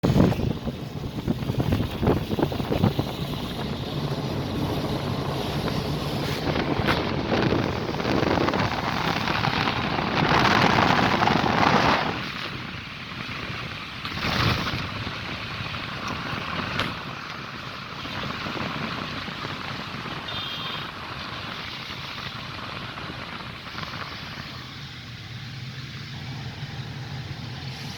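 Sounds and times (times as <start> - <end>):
wind rushing on microphone: 0.0 - 25.0
vehicle rumble: 0.0 - 27.9.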